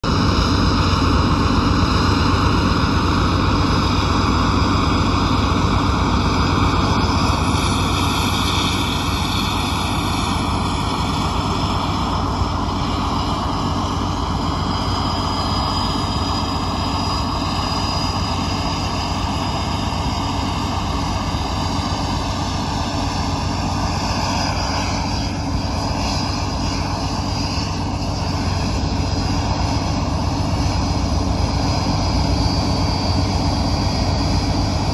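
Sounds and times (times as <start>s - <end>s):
jet turbines whining: 0.0s - 34.9s
low engine hum: 0.0s - 34.9s.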